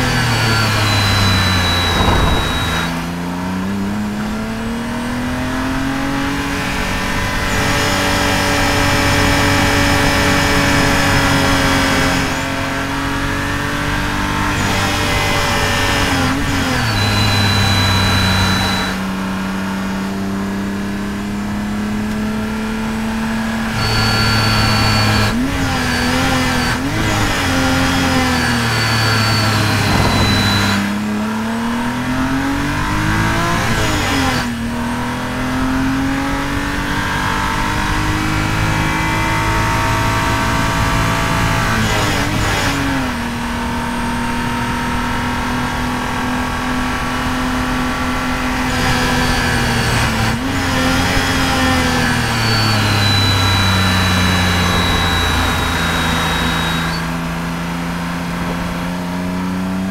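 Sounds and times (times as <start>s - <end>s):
car engine revving hard: 0.0s - 59.9s
supercharger whine: 0.0s - 59.9s.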